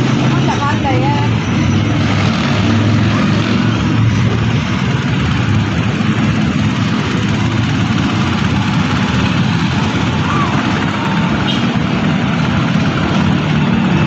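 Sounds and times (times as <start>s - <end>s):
constant rushing noise: 0.0s - 14.0s.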